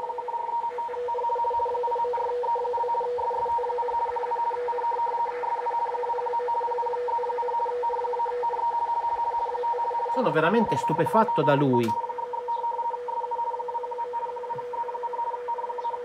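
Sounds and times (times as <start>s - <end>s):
warbling teleprinter radio tones: 0.0s - 16.0s.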